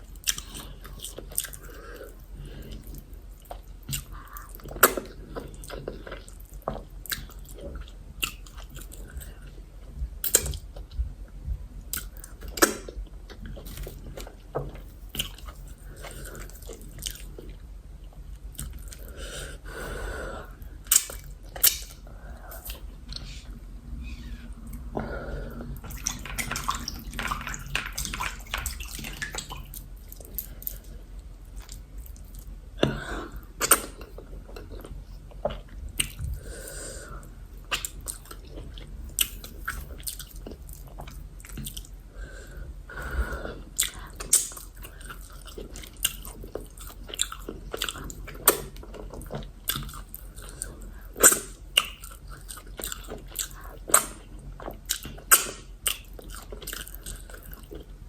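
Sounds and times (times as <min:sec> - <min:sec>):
wet chewing and mouth sounds: 0:00.1 - 0:09.6, 0:11.8 - 0:19.3, 0:20.5 - 0:23.6, 0:24.6 - 0:36.6, 0:37.6 - 0:42.1, 0:43.1 - 0:58.0.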